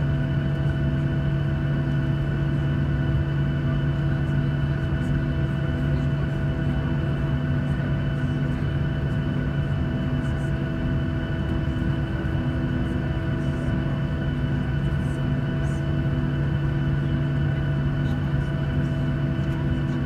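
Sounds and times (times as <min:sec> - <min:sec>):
jet engines humming in cabin: 0:00.0 - 0:20.0.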